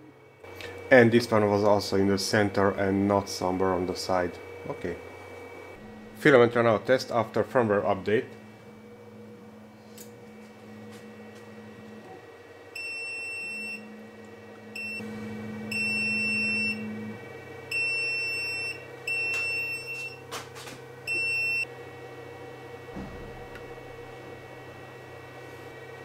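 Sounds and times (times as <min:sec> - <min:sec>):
low printer hum: 0:00.0 - 0:26.0.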